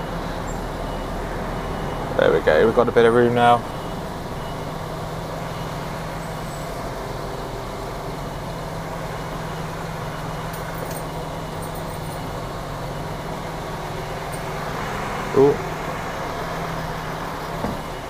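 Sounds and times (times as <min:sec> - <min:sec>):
diesel engine at low revs: 0:00.0 - 0:18.0.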